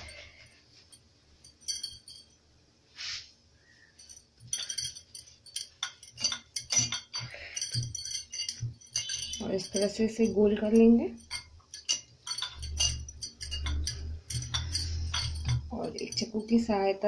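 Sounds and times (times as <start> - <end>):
glass bangles clinking: 0.0 - 2.4, 3.8 - 17.0.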